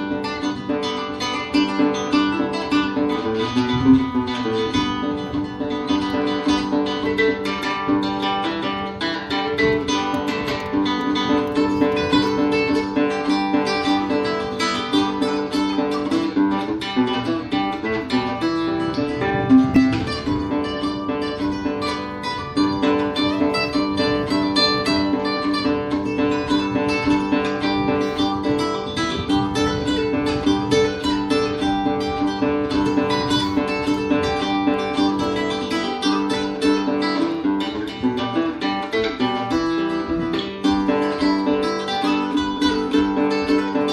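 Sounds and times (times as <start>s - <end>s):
plucked string instrumental music: 0.0s - 43.9s.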